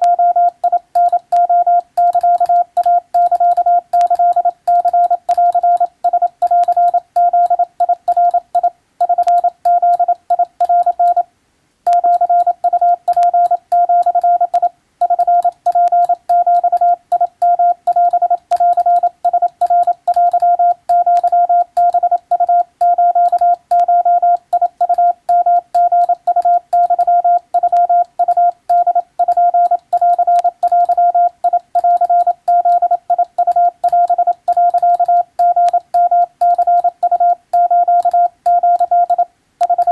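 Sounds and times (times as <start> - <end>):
morse code beeps: 0.0 - 11.3, 11.9 - 39.9.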